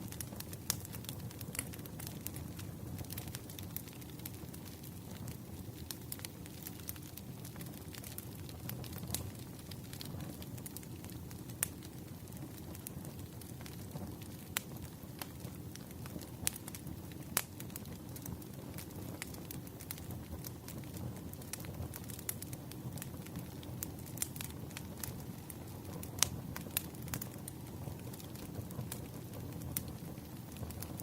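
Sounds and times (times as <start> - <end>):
firewood crackling: 0.0 - 31.0
low rumble of fire: 0.0 - 31.0
sharp pops of fire: 0.0 - 31.0.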